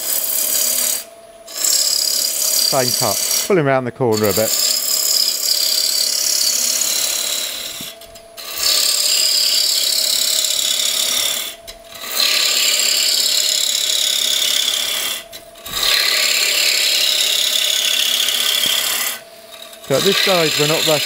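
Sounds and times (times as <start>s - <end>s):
gouge hissing cut on wood: 0.0s - 3.5s, 4.2s - 21.0s
lathe humming: 0.0s - 21.0s.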